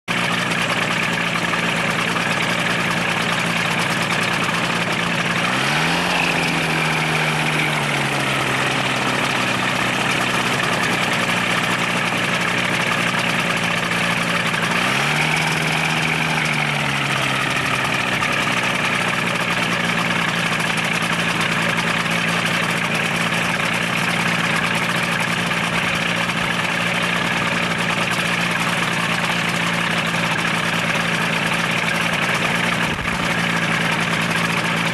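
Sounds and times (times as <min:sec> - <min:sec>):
engine and propeller revving: 0:00.1 - 0:34.9.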